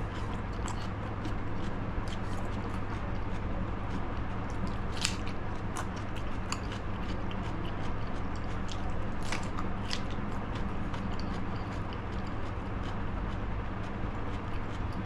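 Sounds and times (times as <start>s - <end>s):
person chewing crunchy food: 0.0s - 15.0s
steady low hum: 0.0s - 15.0s.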